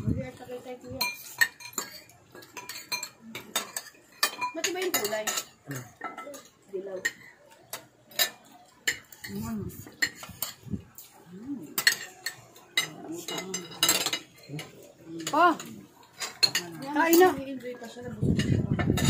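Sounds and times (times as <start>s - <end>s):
cutlery clinking on plates: 0.8s - 19.0s.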